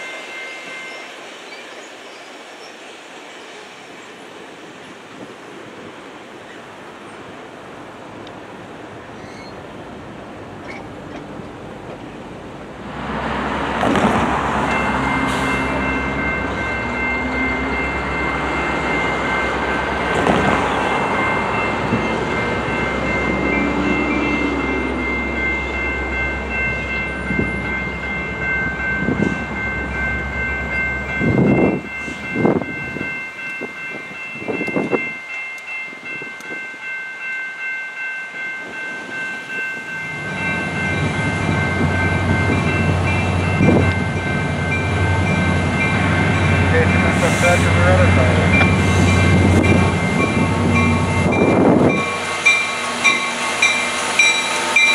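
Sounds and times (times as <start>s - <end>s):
crossing bells ringing: 0.0s - 2.0s, 9.2s - 54.9s
diesel locomotive engine rumble: 1.8s - 54.9s.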